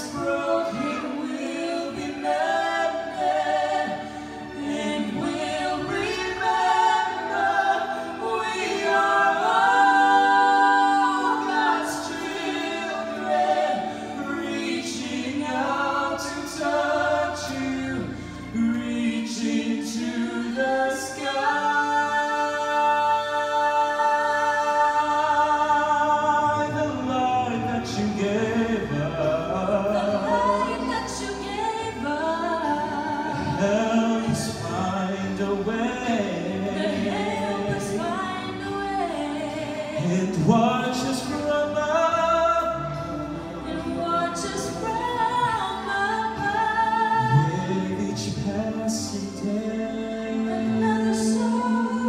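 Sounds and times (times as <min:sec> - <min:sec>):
man and woman singing duet: 0:00.0 - 0:52.0.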